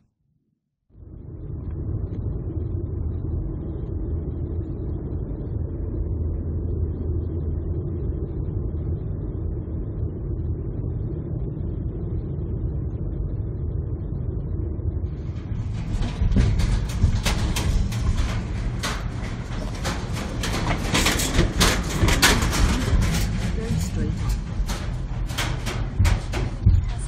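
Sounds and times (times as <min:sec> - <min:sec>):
train rumbling through tunnel: 0:01.0 - 0:27.0.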